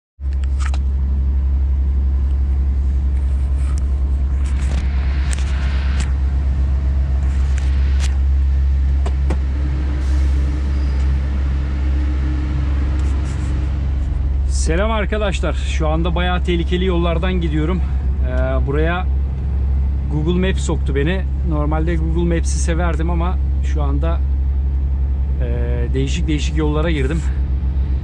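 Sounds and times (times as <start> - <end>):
truck engine drone: 0.2 - 28.0.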